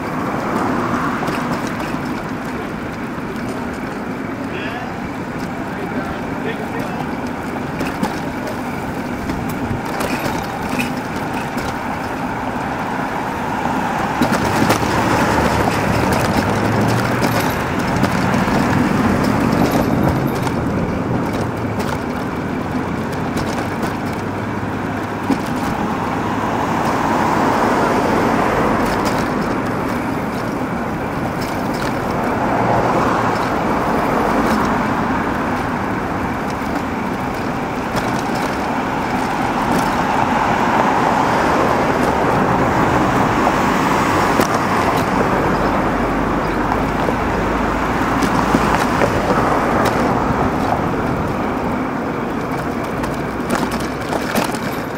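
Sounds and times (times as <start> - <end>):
motor vehicles passing: 0.0 - 54.9
road noise: 0.0 - 54.9.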